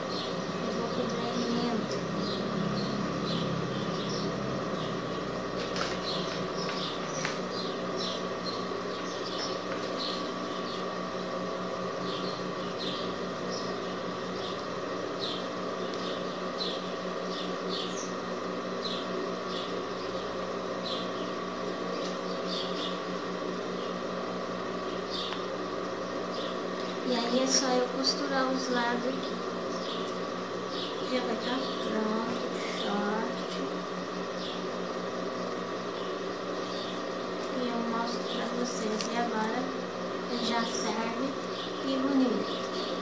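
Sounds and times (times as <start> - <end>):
steady mechanical hum: 0.0 - 43.0.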